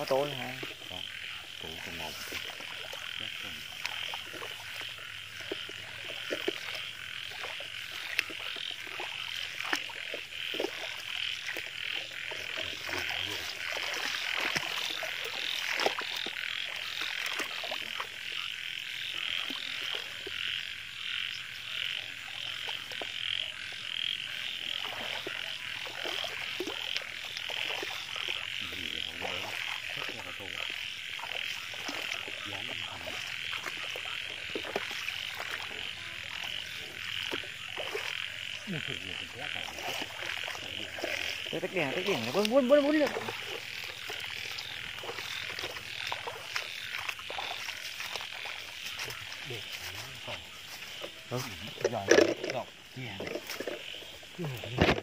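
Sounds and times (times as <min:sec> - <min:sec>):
frogs calling: 0:00.0 - 0:55.0
rustles through wet grass: 0:00.0 - 0:55.0.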